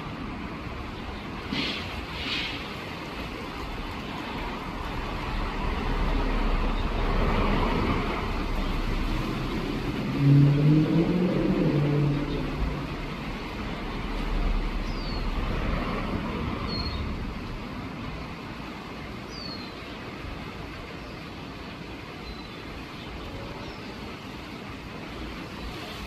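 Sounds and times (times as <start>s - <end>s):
pitched vehicle hum: 0.0s - 26.0s
road traffic passing: 0.0s - 26.0s.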